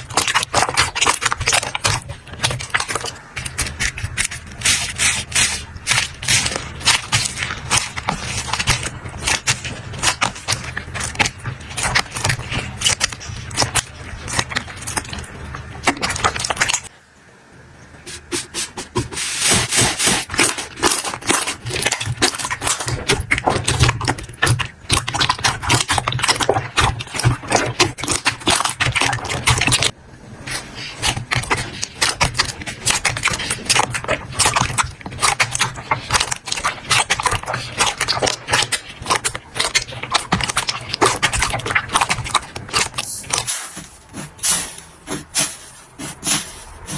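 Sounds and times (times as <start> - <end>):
slime crackling and squishing: 0.0 - 16.9, 18.1 - 46.9.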